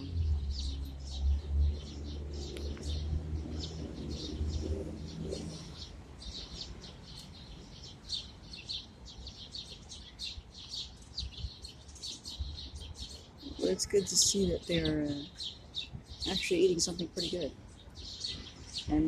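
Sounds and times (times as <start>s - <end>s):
flock of birds chirping: 0.0s - 19.0s.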